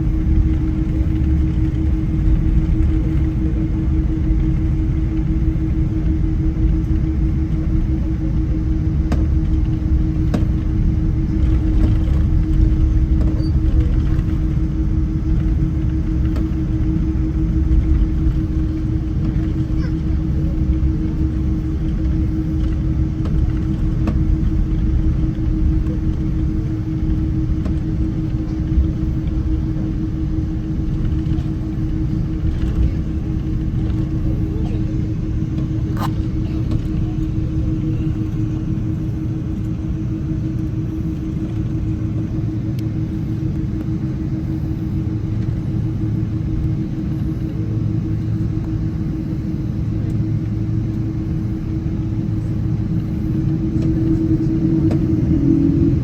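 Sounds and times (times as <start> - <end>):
aircraft cabin rumble: 0.0 - 56.0
engine hum: 0.0 - 56.0.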